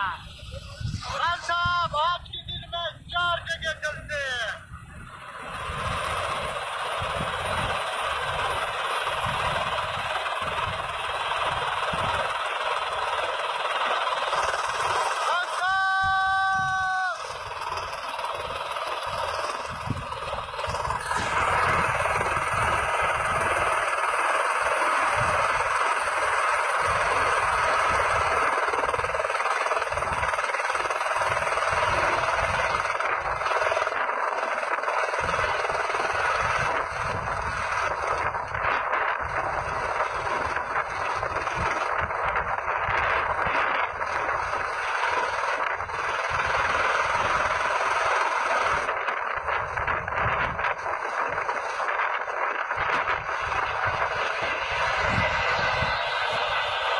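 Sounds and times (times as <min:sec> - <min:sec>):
helicopter rotor and turbine: 0:00.0 - 0:56.9.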